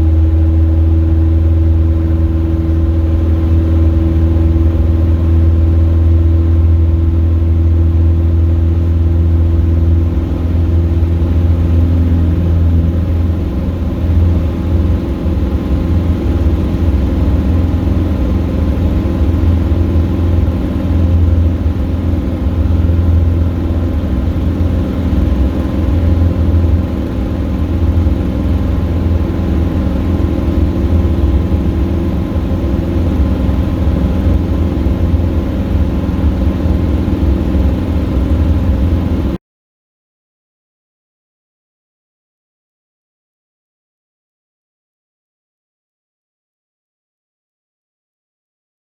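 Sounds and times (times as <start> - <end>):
aircraft piston engine humming: 0.0 - 39.4.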